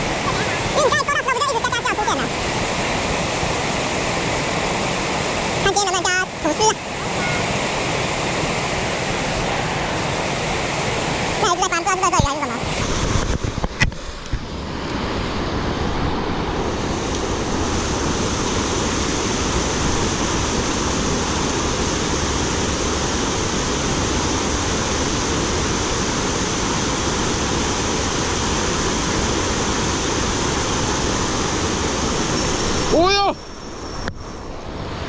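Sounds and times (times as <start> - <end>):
creek water rushing: 0.0 - 35.0.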